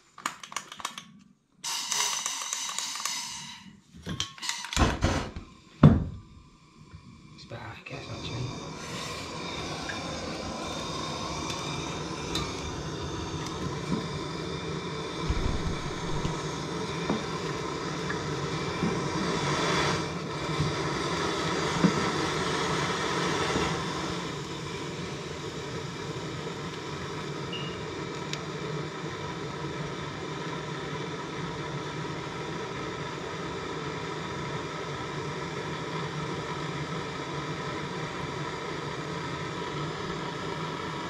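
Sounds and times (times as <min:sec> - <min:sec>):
blowtorch flame burning: 0:04.5 - 0:41.0.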